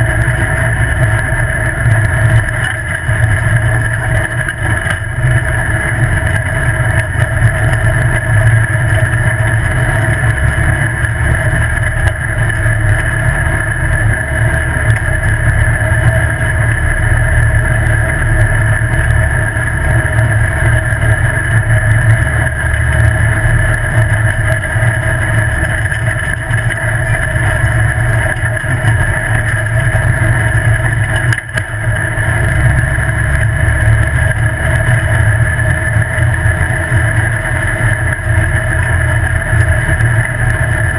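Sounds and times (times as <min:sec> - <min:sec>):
buggy engine drone: 0:00.0 - 0:40.9
road noise: 0:00.0 - 0:40.9.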